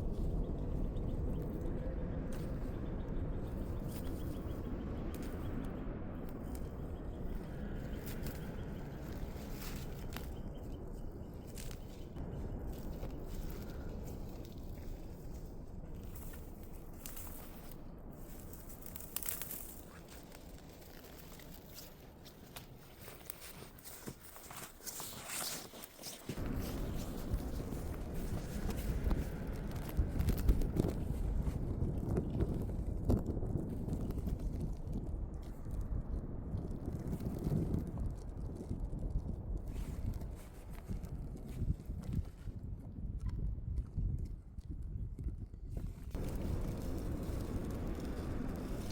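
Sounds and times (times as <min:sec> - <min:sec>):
crunches and rustles in snow: 0:00.0 - 0:43.3, 0:45.4 - 0:48.9
blizzard wind: 0:00.0 - 0:48.9.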